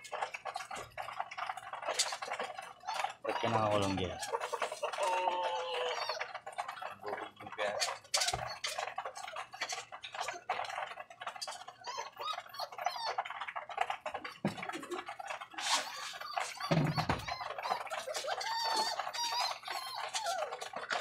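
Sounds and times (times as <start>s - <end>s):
pigeons pecking on wire floor: 0.0s - 21.0s.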